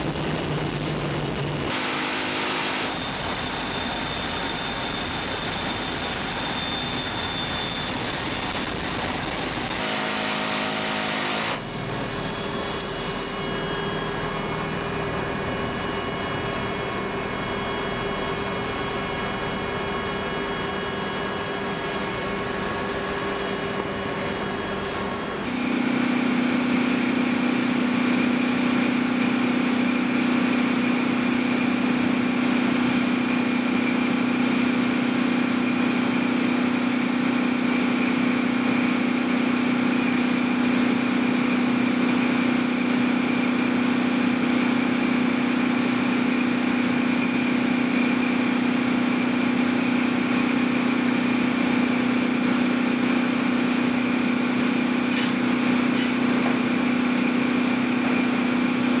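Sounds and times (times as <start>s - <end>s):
high machine whines: 0.0s - 59.0s
machine drone with low hum: 0.0s - 59.0s.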